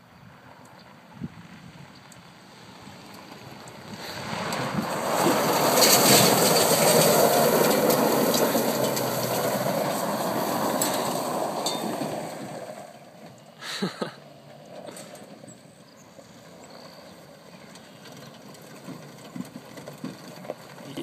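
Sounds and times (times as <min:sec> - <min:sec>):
tyres sliding on gravel: 0:02.8 - 0:21.0.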